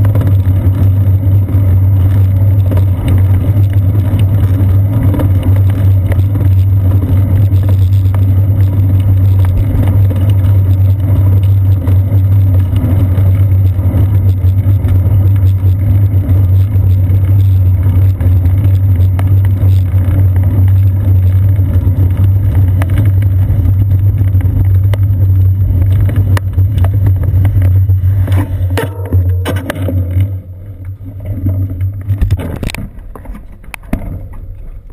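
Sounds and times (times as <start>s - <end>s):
bicycle rolling over pavement: 0.0s - 34.9s.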